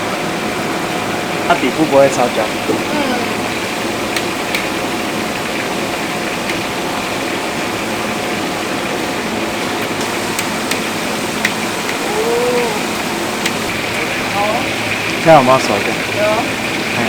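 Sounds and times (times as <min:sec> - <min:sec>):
cooking equipment roaring: 0:00.0 - 0:17.0.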